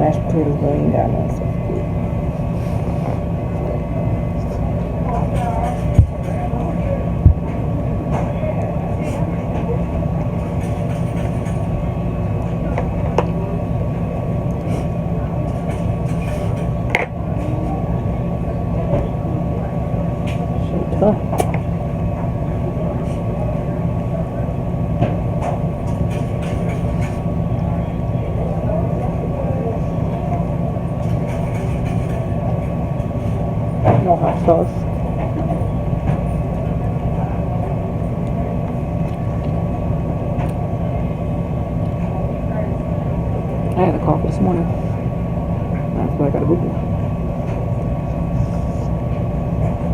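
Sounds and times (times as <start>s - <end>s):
low mechanical rumble: 0.0s - 49.9s.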